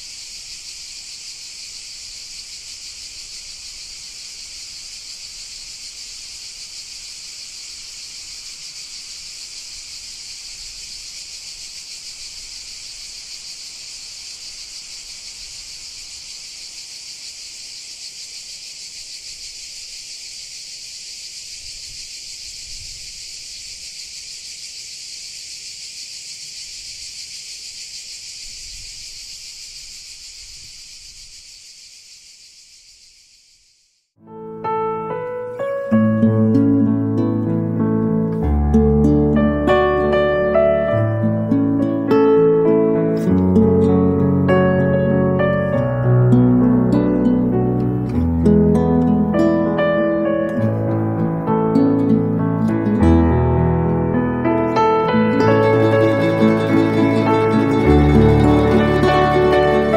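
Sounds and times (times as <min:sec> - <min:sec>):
cicadas buzzing: 0:00.0 - 0:34.2, 0:35.2 - 0:53.2, 0:54.4 - 0:59.9.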